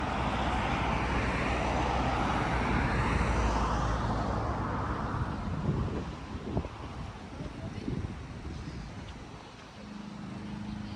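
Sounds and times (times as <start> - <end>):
road traffic rumble: 0.0 - 10.9.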